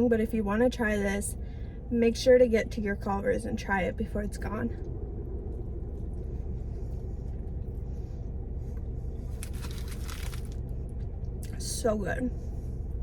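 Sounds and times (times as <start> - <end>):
car idling rumble: 0.0 - 13.0.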